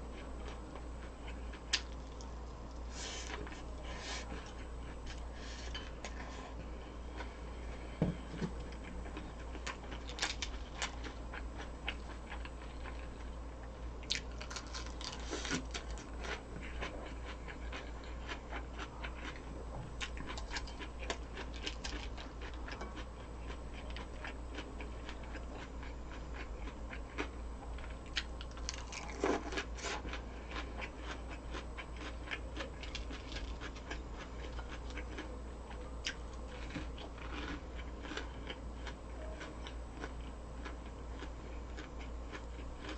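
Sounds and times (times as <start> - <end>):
chewing and crunching fried food: 0.0 - 42.9.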